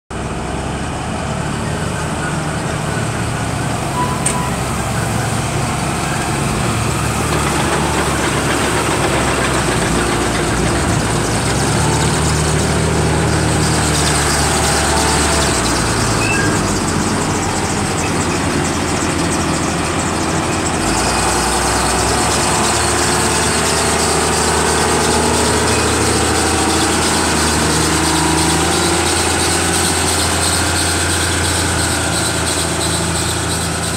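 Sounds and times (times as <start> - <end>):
wheel loader diesel engine running: 0.1 - 33.9.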